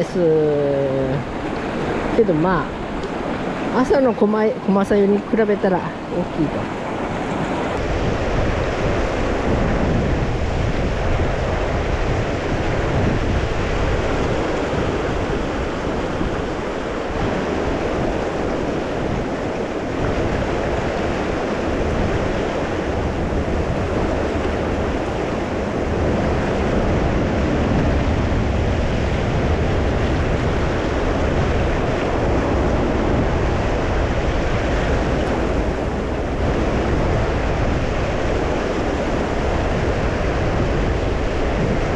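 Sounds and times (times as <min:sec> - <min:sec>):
wind on microphone: 0:00.0 - 0:41.9.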